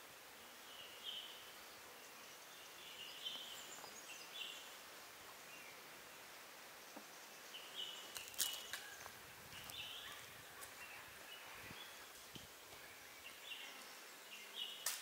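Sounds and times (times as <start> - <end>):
steady hiss: 0.0 - 15.0
bird calls and trills: 0.6 - 5.8, 6.8 - 15.0.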